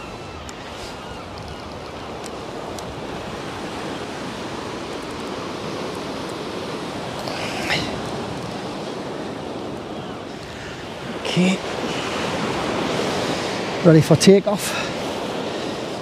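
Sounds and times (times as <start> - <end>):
sea surf washing ashore: 0.0 - 16.0.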